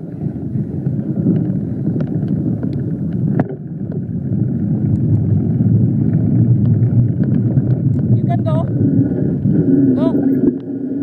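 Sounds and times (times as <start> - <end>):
bike rattling over bumps: 0.0 - 10.1
wind buffeting microphone: 0.0 - 11.0.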